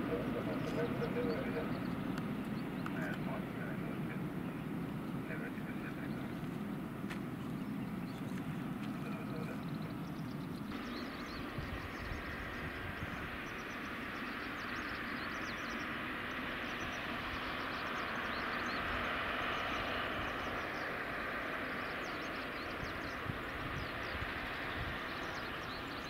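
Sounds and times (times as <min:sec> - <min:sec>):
distant jet engine hiss: 0:00.0 - 0:26.0
small birds chirping: 0:00.0 - 0:26.0.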